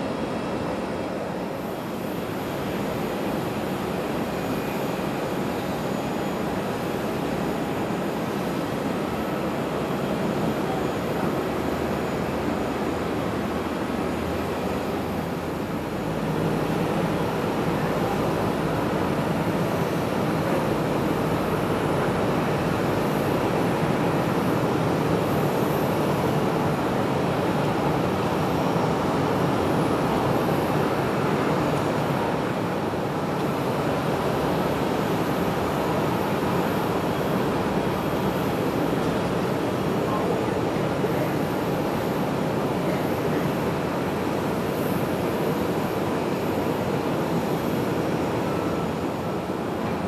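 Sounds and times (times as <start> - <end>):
muffled airport rumble and hiss: 0.0 - 50.0.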